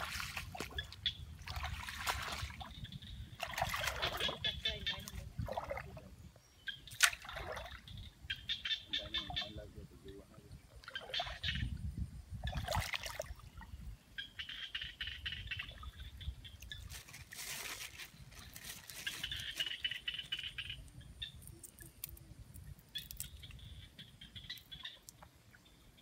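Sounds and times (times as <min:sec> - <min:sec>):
water splashing and trickling: 0:00.0 - 0:08.2, 0:10.7 - 0:13.9, 0:15.4 - 0:25.8.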